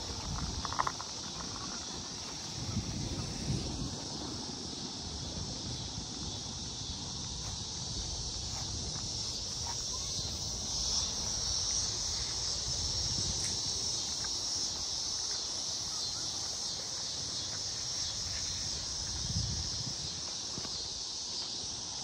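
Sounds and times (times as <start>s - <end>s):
insect chorus buzzing: 0.0s - 22.0s.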